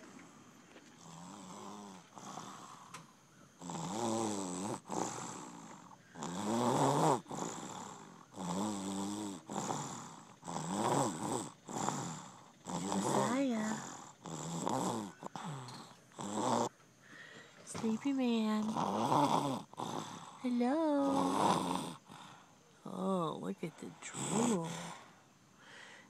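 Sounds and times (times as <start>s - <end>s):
toddler snoring: 0.0s - 26.0s.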